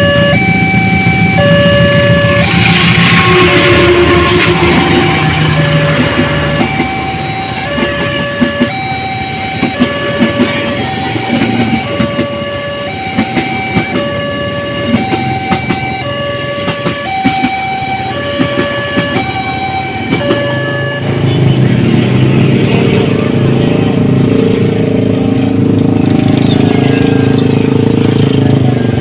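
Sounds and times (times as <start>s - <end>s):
two-tone crossing warning: 0.0s - 29.0s.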